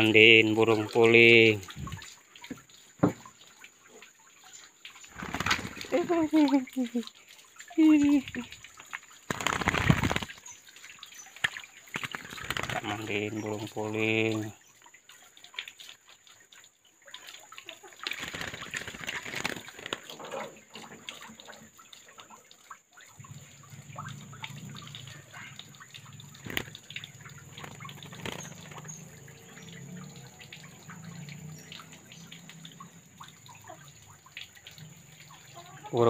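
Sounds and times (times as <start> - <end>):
water splashing in plastic basin: 0.0 - 36.0.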